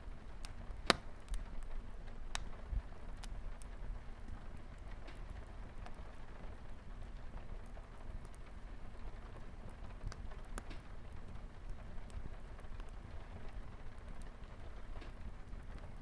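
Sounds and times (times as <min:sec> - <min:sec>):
fireplace crackling: 0:00.0 - 0:16.0.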